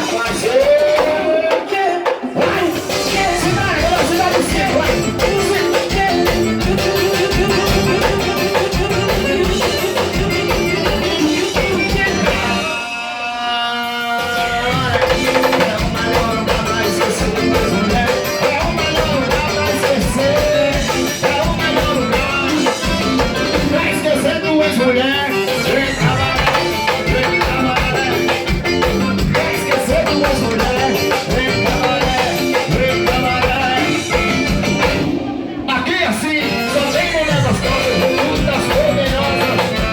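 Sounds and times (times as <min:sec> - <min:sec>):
drums: 0:00.0 - 0:39.9
live band music: 0:00.0 - 0:39.9.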